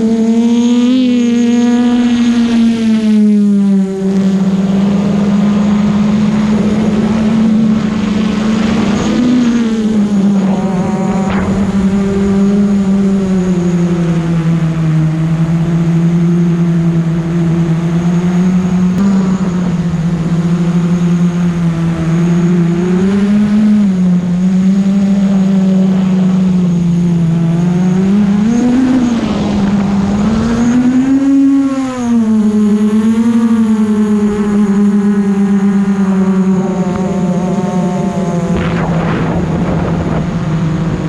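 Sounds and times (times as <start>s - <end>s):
drone motors buzzing: 0.0s - 41.0s.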